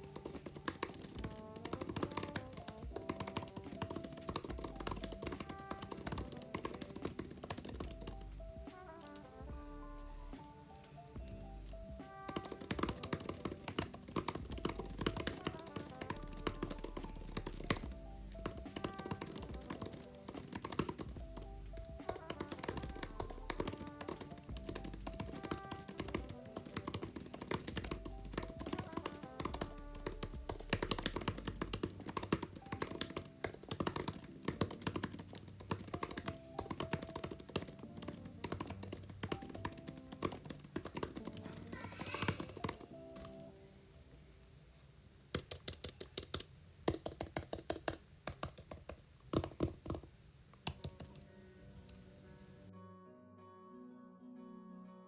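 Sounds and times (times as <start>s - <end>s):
fast keyboard typing: 0.0s - 9.3s, 10.0s - 43.4s, 45.3s - 51.2s
background music: 0.0s - 44.6s, 50.6s - 55.0s.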